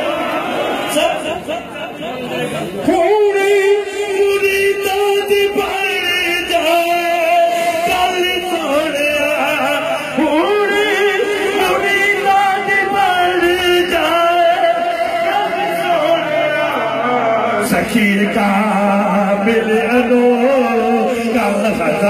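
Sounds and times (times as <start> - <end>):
men singing a devotional chant: 2.9 - 22.0.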